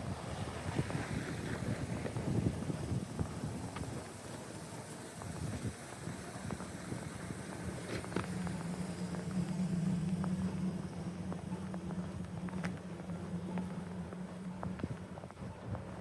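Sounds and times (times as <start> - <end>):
vehicle engine hum: 0.0 - 16.0
footsteps crunching in snow: 0.3 - 16.0.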